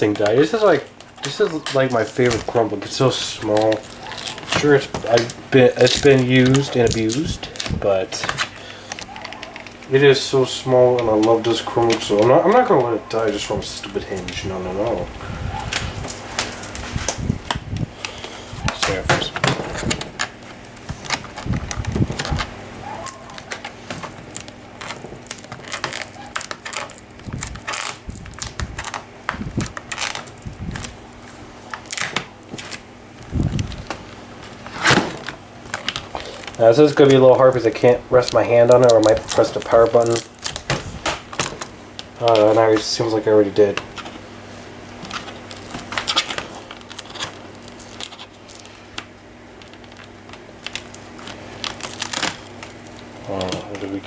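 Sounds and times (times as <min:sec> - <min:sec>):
tape peeling off plastic: 0:00.0 - 0:44.3, 0:45.0 - 0:53.8.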